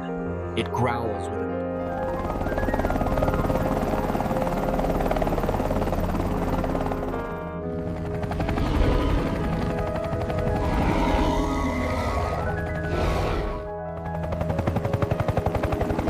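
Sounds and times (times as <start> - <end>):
dramatic background music: 0.0 - 16.0
helicopter rotors chopping: 2.0 - 16.0.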